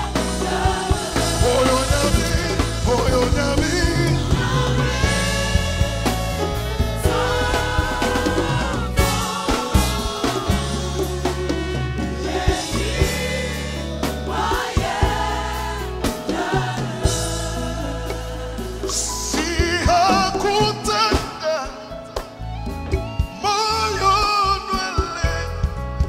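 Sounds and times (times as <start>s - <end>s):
voices singing: 0.0s - 21.4s
gospel band bass line: 0.0s - 26.0s.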